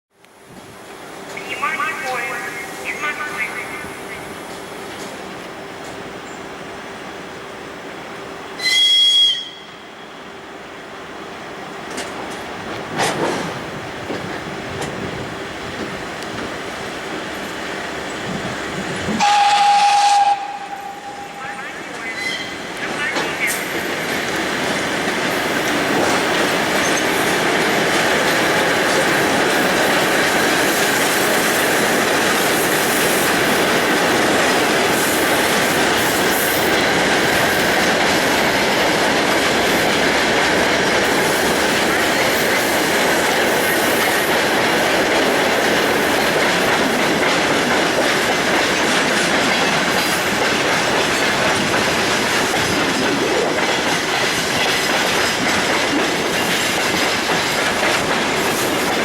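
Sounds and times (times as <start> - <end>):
freight train wheels rumbling: 0.2 - 59.0.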